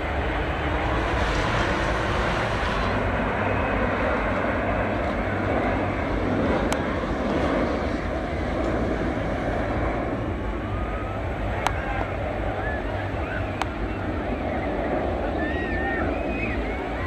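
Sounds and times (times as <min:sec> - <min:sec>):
jets passing overhead: 0:00.0 - 0:17.0.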